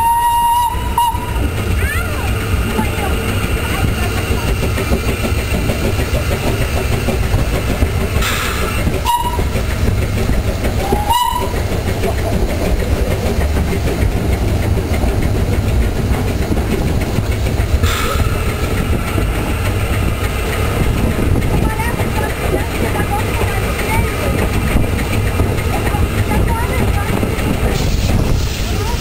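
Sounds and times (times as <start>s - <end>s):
steam train rumble and clatter: 0.0s - 29.0s.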